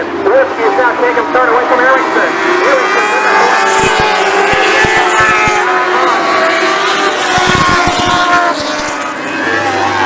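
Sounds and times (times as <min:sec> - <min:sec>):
race car engines at high revs: 0:00.0 - 0:10.0.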